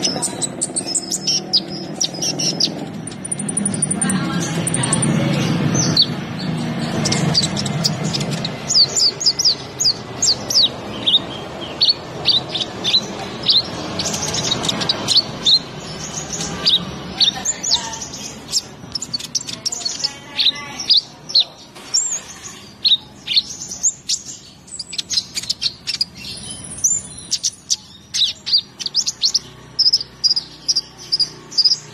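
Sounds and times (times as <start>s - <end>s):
bird chirping high: 0.0s - 31.9s.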